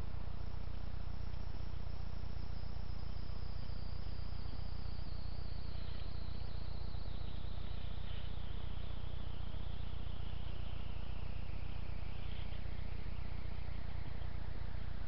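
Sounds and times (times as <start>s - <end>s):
microphone hiss and hum: 0.0s - 15.0s.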